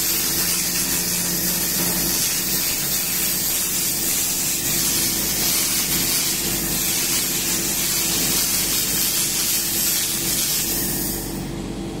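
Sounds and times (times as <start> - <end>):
laser cleaner high hiss: 0.0 - 11.5
low machine hum: 0.0 - 12.0.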